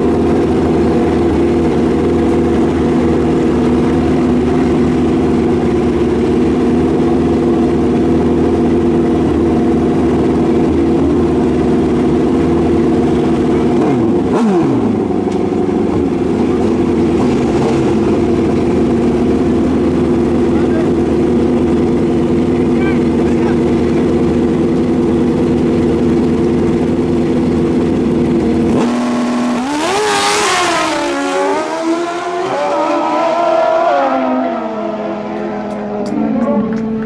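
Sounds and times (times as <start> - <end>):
motorcycle engines idling: 0.0 - 32.4, 33.3 - 37.0.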